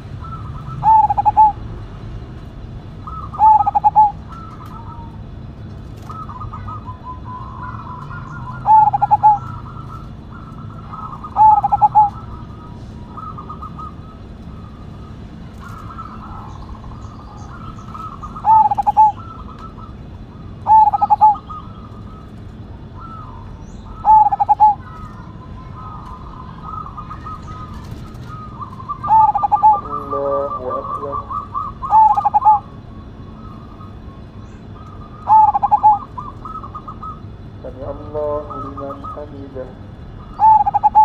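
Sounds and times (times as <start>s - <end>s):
dove trilled cooing: 0.0s - 41.0s
faint high bird chirps: 0.0s - 41.0s.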